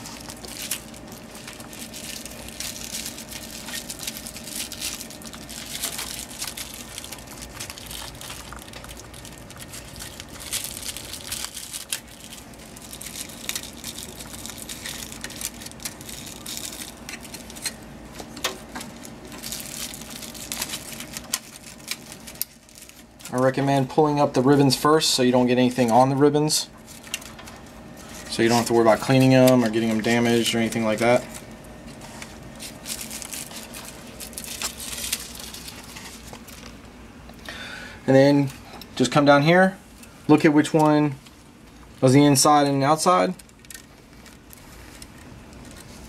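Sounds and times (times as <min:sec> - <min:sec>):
plastic wrapping crinkling: 0:00.0 - 0:24.4, 0:26.7 - 0:37.0, 0:40.4 - 0:46.0
steady low hum: 0:00.0 - 0:46.0.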